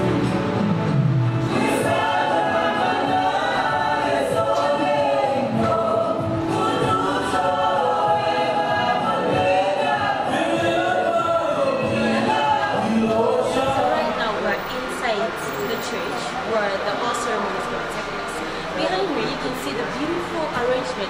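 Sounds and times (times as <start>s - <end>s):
choir singing gospel music: 0.0s - 21.0s.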